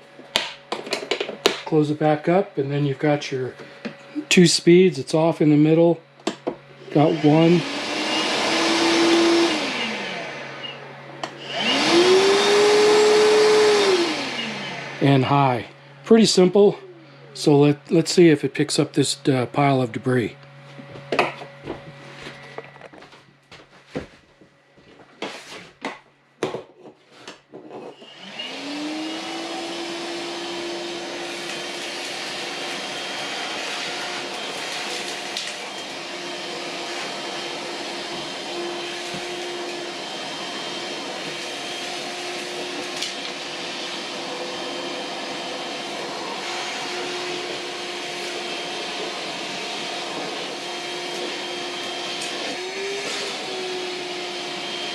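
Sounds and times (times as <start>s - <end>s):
shop vacuum motor whining: 0.0s - 23.2s, 27.2s - 54.9s.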